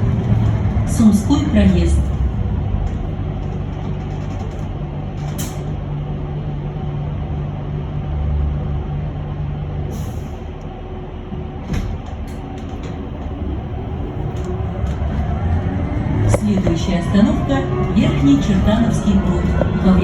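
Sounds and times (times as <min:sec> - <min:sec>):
electric bus hum: 0:00.0 - 0:20.0.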